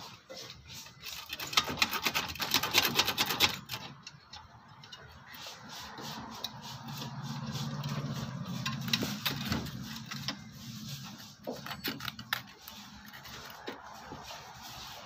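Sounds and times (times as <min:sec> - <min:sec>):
low mechanical hum with ticking: 0:00.8 - 0:14.5.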